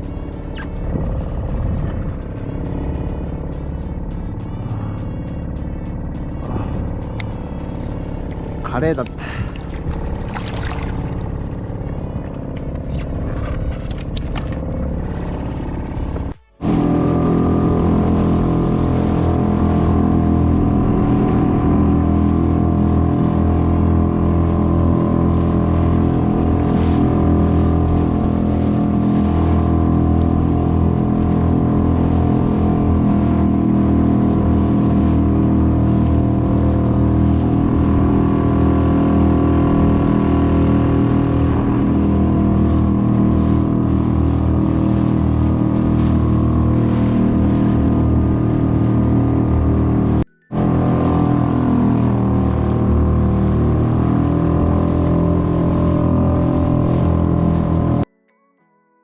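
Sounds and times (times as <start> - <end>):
outboard motor running: 0.0 - 58.1.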